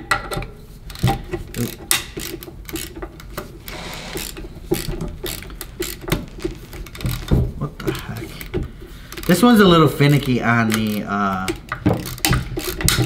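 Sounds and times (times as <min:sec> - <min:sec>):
ratcheting screwdriver ticking: 0:00.9 - 0:13.0.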